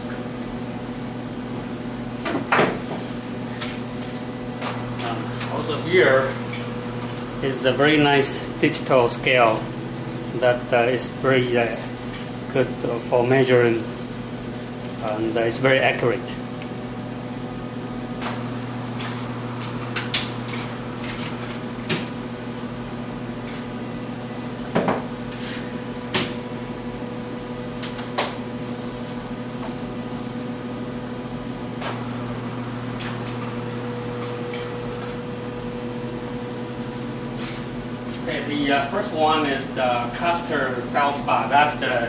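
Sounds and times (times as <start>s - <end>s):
electrical hum: 0.0s - 42.0s.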